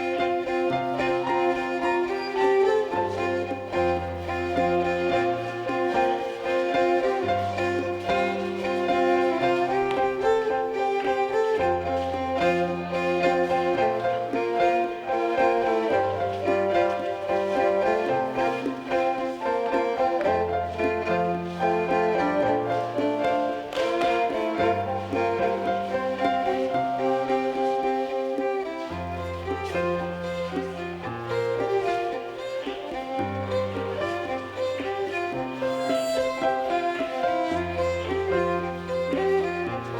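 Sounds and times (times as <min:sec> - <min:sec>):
fiddle melody: 0:00.0 - 0:39.9.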